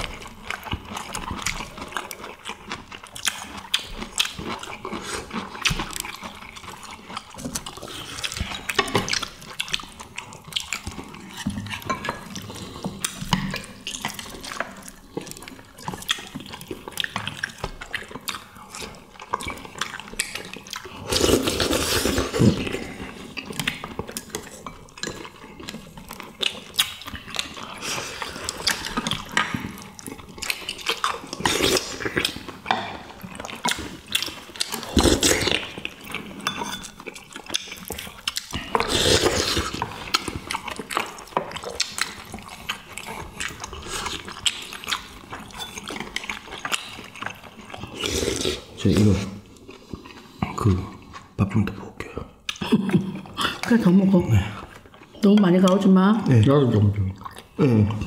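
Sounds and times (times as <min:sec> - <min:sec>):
chewing and mouth sounds: 0:00.0 - 0:58.0.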